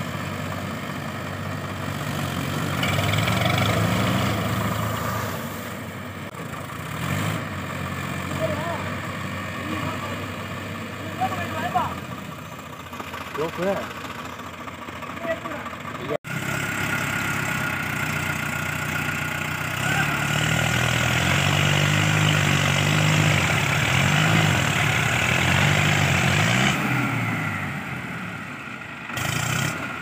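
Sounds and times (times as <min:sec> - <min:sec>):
tractor engine revving: 0:00.0 - 0:30.0.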